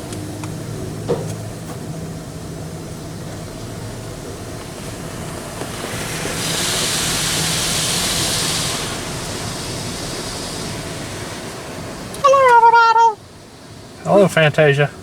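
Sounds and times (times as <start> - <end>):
low machinery hum: 0.0 - 15.0
water rushing over car: 0.0 - 15.0
loud hissing spray: 2.7 - 15.0.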